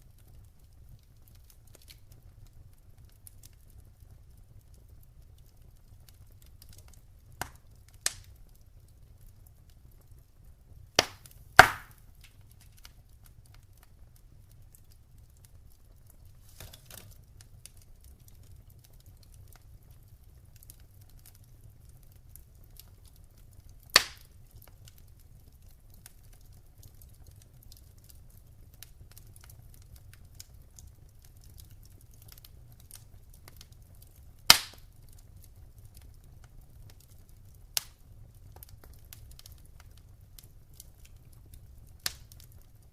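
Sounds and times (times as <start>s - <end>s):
burning logs popping: 0.0s - 42.9s
wood fire crackling: 0.0s - 42.9s.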